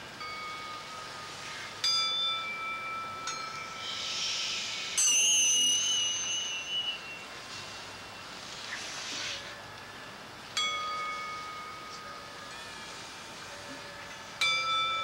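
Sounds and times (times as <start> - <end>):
struck metal chime tones: 0.2 - 15.0.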